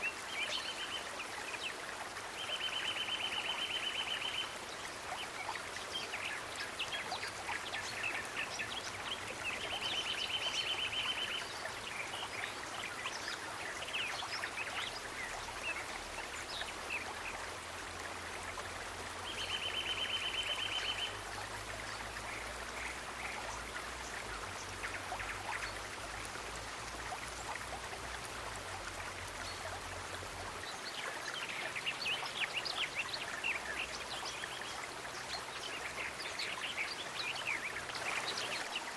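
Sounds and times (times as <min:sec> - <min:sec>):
stream of water running: 0:00.0 - 0:38.9.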